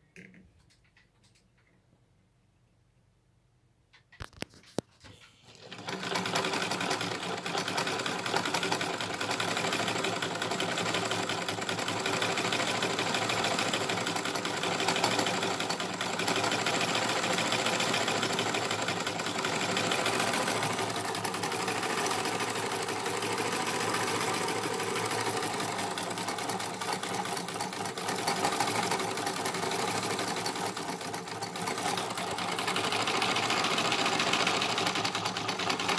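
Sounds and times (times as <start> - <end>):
sewing machine running: 5.5 - 35.9.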